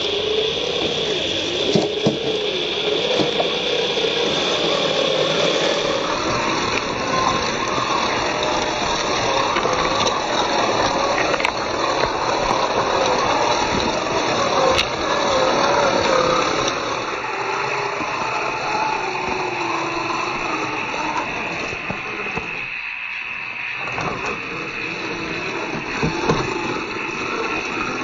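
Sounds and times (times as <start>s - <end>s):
tyres grinding over rocks: 0.0s - 22.8s, 23.8s - 28.0s
electric motor whining: 0.0s - 28.0s.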